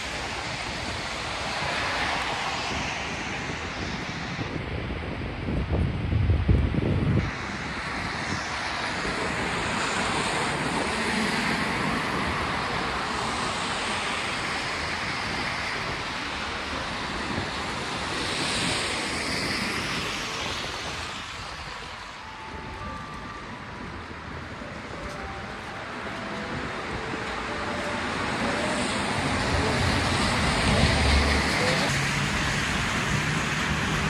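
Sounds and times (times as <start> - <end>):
traffic on wet road: 0.0 - 34.0
wind buffeting microphone: 0.0 - 34.0.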